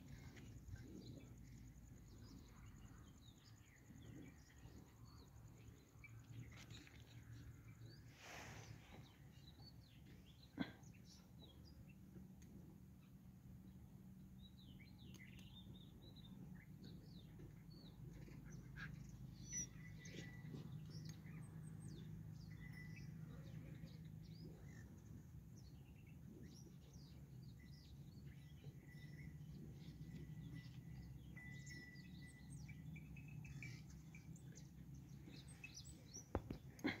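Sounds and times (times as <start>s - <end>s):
faint birds chirping: 0.0s - 37.0s
low steady hum: 0.0s - 37.0s.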